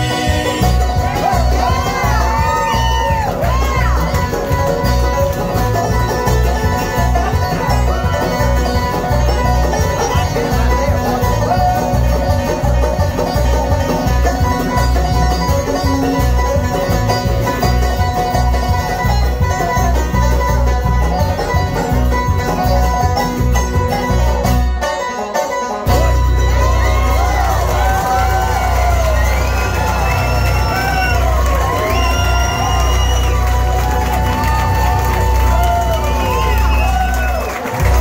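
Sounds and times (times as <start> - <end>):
acoustic guitars: 0.0 - 38.0
banjo: 0.0 - 38.0
mandolin: 0.0 - 38.0.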